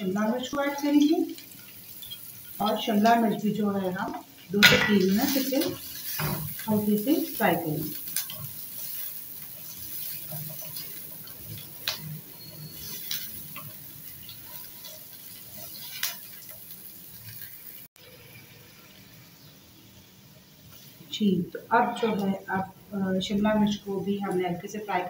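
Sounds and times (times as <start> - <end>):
vegetables sizzling in oil: 0.0 - 25.0.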